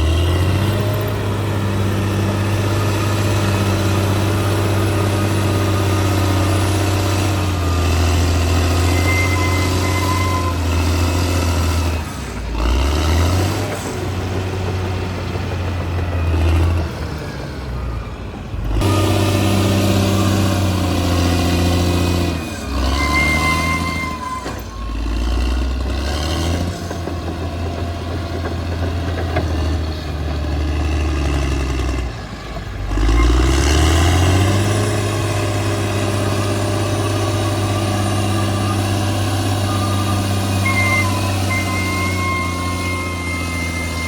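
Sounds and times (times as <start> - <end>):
bulldozer diesel engine running: 0.0 - 44.0.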